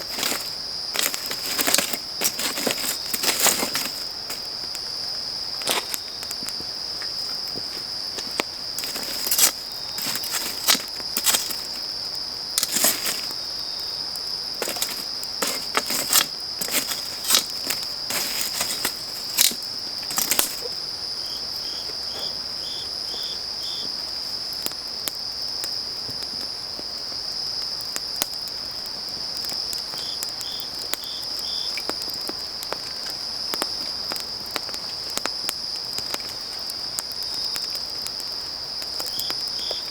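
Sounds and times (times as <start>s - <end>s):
insect chirping in short runs: 0.0s - 24.6s, 29.6s - 35.0s, 36.2s - 39.9s
crickets chirping chorus: 0.0s - 39.9s
wood fire crackling and popping: 0.0s - 39.9s.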